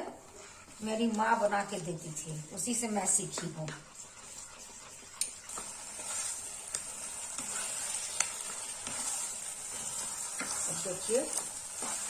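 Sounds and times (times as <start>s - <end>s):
sizzling hiss in a pan: 0.3s - 12.0s
spoon scraping a pan: 1.0s - 12.0s.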